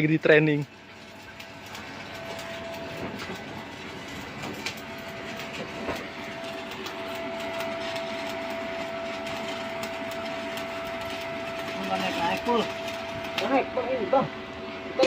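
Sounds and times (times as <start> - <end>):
welding arc crackling: 0.2 - 14.3.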